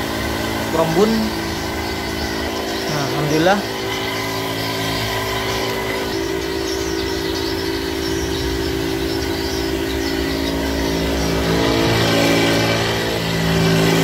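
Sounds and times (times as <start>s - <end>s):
pump motor humming: 0.0s - 14.0s.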